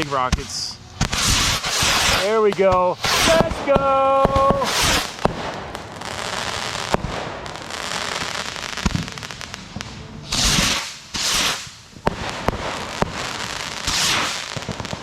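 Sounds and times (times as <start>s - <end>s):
firework bangs: 0.0s - 15.0s
firework rockets hissing: 0.0s - 15.0s
fireworks crackling: 0.0s - 15.0s.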